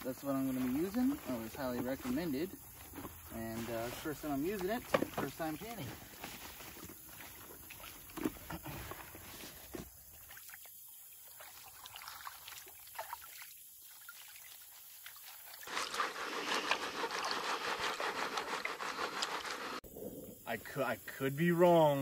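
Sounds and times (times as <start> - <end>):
water sloshing in pans: 0.0 - 19.8.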